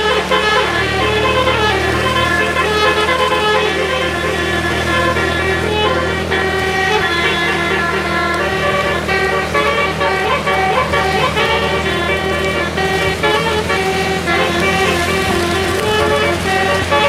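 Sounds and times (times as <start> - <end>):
low engine hum: 0.0 - 17.0
musical air horn melody: 0.0 - 17.0.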